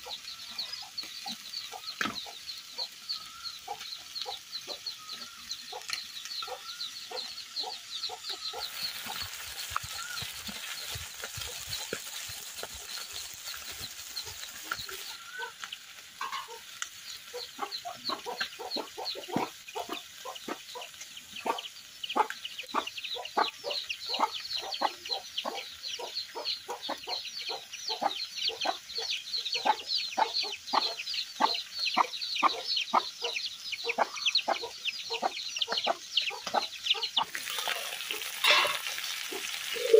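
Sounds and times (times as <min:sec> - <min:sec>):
chickens clucking: 0:00.0 - 0:39.9
steady hiss: 0:00.0 - 0:39.9.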